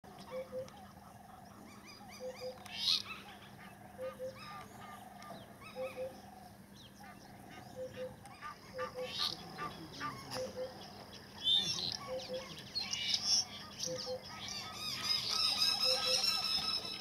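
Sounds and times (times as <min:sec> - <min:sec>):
birds chirping: 0:00.1 - 0:17.0
bird double hoot with trill: 0:00.2 - 0:01.0, 0:01.6 - 0:06.4, 0:07.0 - 0:10.8, 0:11.6 - 0:17.0.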